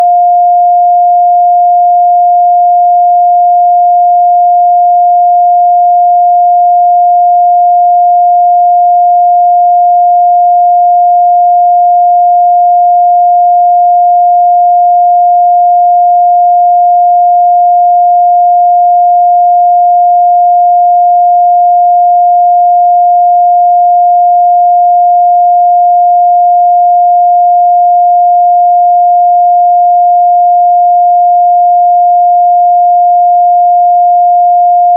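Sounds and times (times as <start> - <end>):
sine wave test tone: 0.0 - 34.9.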